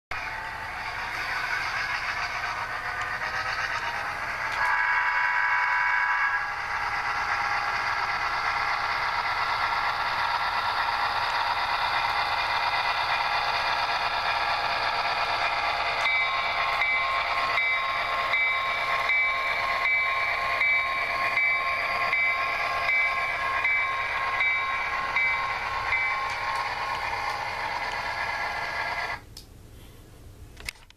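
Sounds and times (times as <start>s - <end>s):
model train whining on track: 0.2s - 29.2s.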